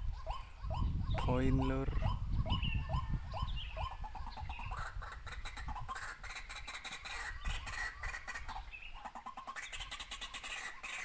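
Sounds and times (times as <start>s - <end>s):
bird clucking calls: 0.0s - 11.0s.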